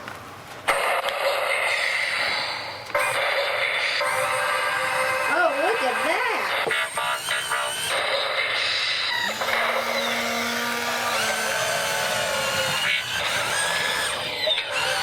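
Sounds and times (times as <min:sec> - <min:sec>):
toy whirring machine sound: 0:01.7 - 0:15.0.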